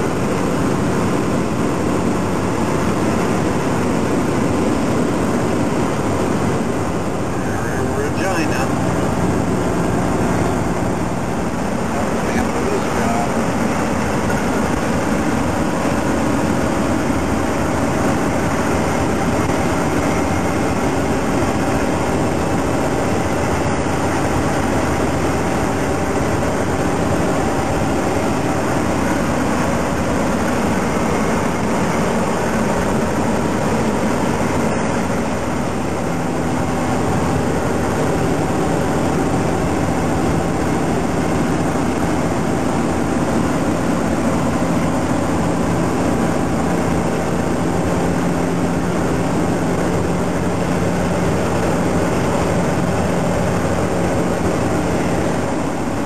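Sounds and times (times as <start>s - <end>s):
diesel truck engine drone: 0.0s - 56.0s
road noise: 0.0s - 56.0s.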